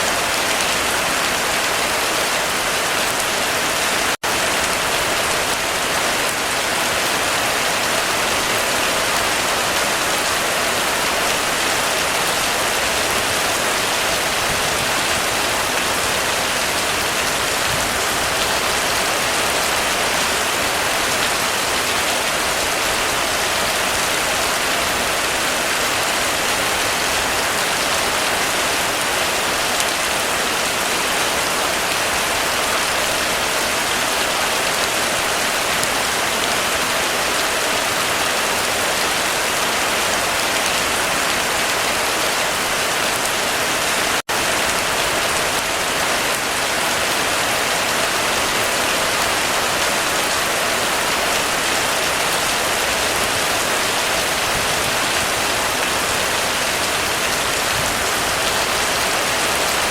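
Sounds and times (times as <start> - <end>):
heavy rain on a roof: 0.0 - 59.9.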